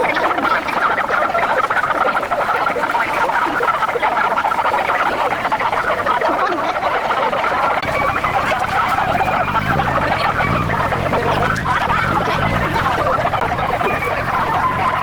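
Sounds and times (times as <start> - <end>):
chorus of frogs croaking: 0.0 - 15.0.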